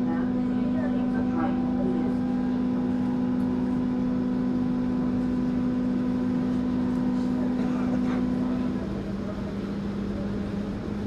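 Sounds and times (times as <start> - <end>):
train electrical equipment humming: 0.0 - 11.0.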